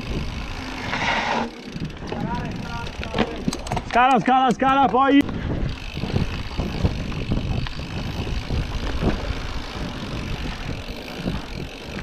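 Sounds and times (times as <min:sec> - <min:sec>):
wind rumbling on microphone: 0:00.0 - 0:04.0, 0:04.6 - 0:12.0
bike rattling over bumps: 0:00.0 - 0:12.0
bike tyres on dirt and leaves: 0:00.0 - 0:12.0.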